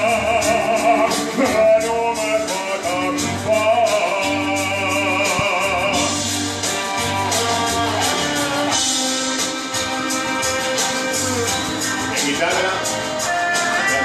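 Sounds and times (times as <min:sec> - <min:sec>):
instrumental backing music: 0:00.0 - 0:14.0
man singing with vibrato: 0:00.0 - 0:14.0.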